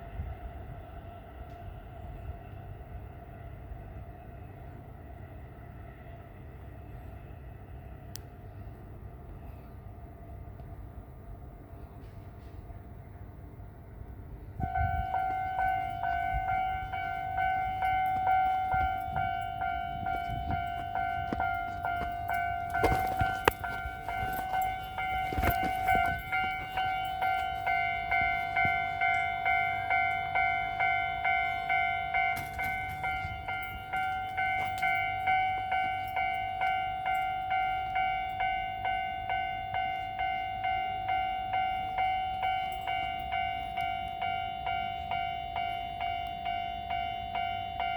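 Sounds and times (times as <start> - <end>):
train passing over rails: 0.0 - 47.9.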